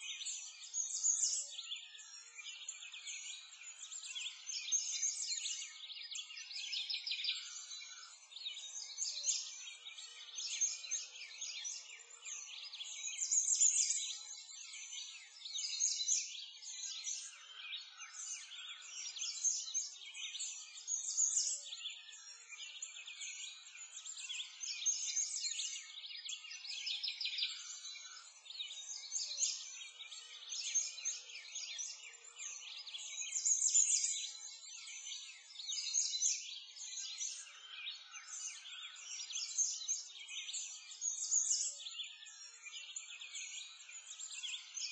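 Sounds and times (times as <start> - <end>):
songbirds chirping and singing: 0.0 - 44.9.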